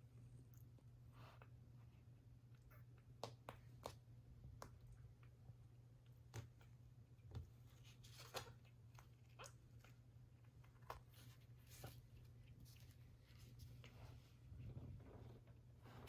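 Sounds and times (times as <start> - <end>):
faint soft clicks and rustles: 0.1 - 16.0.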